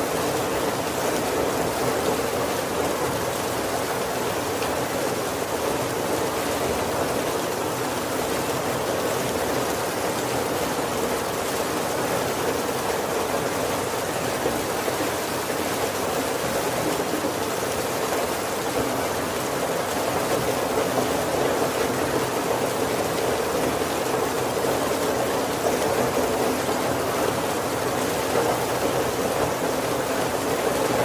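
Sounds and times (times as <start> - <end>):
heavy rain on a wooden roof: 0.0 - 31.0.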